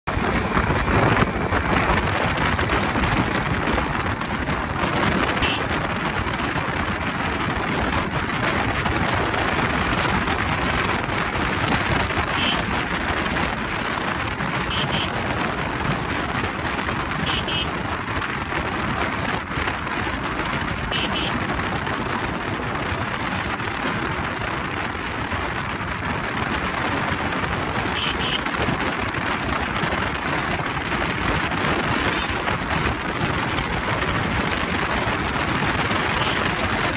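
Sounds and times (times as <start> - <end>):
wind and road noise roar: 0.0 - 36.9.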